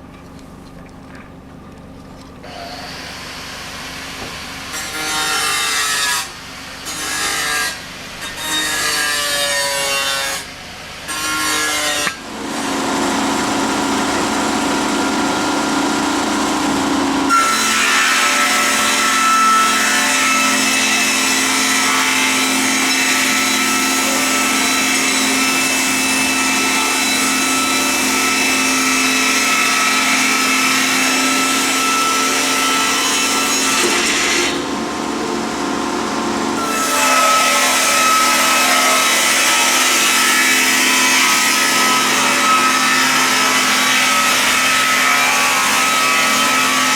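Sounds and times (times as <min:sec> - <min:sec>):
saw cutting wood: 0:02.4 - 0:46.9.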